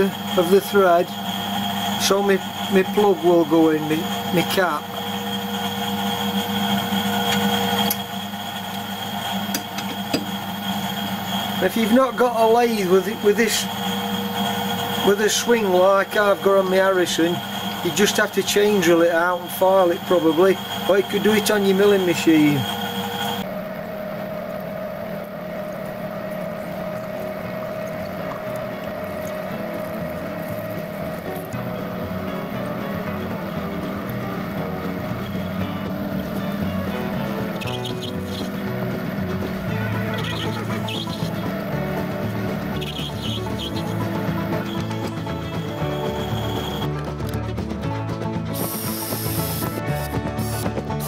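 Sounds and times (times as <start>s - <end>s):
lathe drilling into brass: 0.0s - 23.5s, 28.8s - 46.9s
steady mechanical hum: 0.0s - 47.5s.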